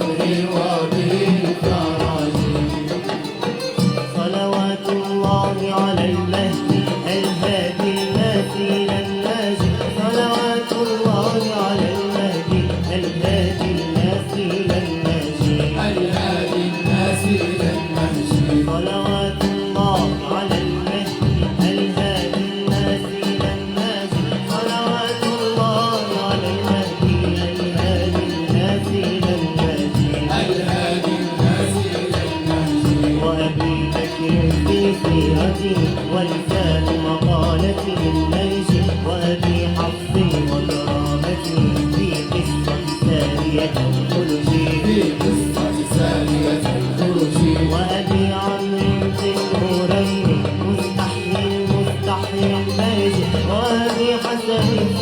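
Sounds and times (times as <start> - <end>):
dense hand-drum beat: 0.0 - 55.0
wavering melody: 0.0 - 55.0.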